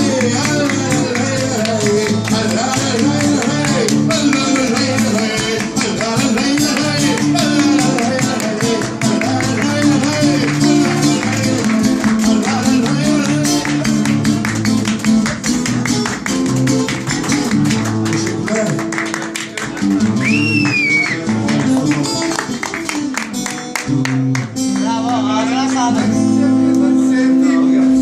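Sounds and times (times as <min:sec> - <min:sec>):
guitar strummed briskly: 0:00.0 - 0:28.0.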